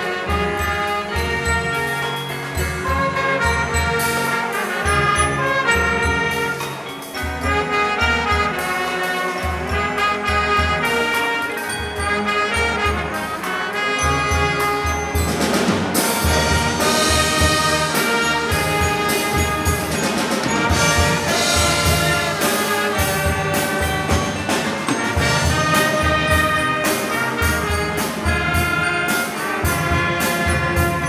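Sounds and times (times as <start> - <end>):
saxophones and trumpets melody: 0.0 - 31.0
steady drum beat: 0.0 - 31.0.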